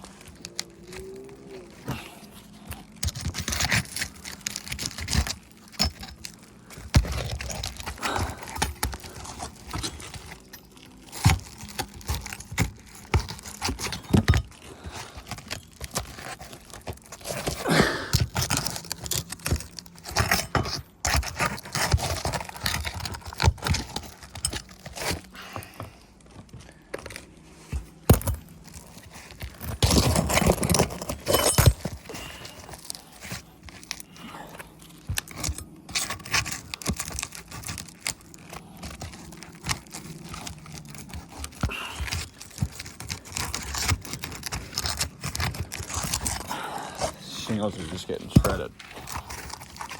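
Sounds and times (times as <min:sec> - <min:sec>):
roof shingles scraping and tearing: 0:00.0 - 0:49.9.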